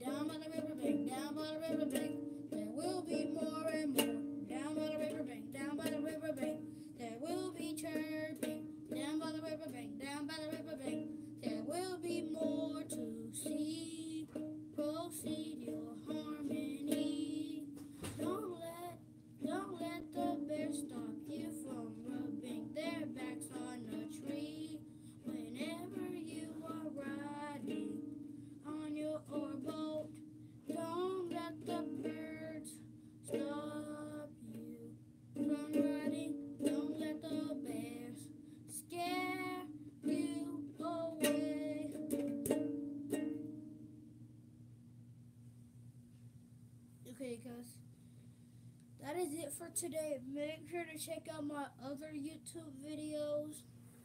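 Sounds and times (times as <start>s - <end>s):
child singing: 0.0s - 42.2s, 49.0s - 53.6s
ukulele strumming: 0.0s - 44.1s.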